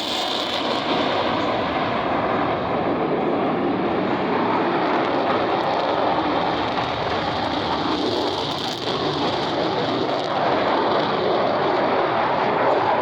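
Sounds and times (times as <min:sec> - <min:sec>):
jet engine rushing: 0:00.0 - 0:13.0.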